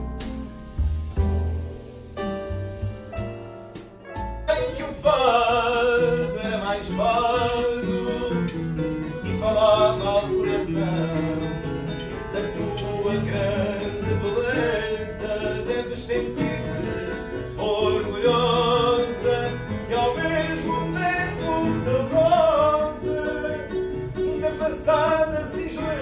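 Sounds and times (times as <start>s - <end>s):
plucked guitar: 0.0s - 26.0s
person singing with vibrato: 4.4s - 26.0s.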